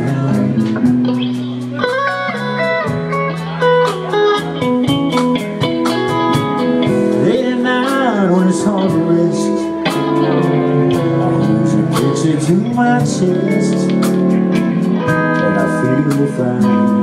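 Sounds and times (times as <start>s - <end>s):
band playing steady beat: 0.0s - 17.0s
guitar lead with bent notes: 0.0s - 17.0s.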